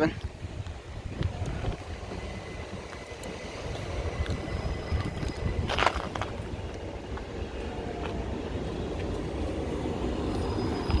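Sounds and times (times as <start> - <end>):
electric train low rumble: 0.0 - 11.0.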